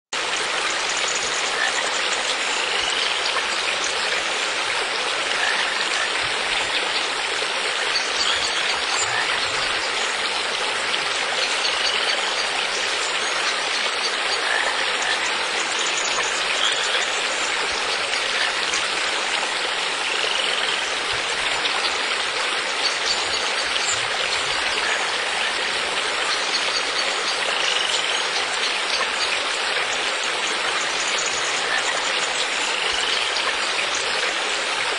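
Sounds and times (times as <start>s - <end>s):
stream water rushing: 0.2s - 34.9s.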